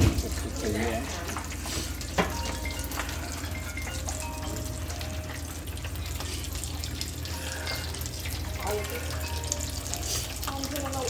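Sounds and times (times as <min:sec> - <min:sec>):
grease sizzling in a deep fryer: 0:00.0 - 0:11.0.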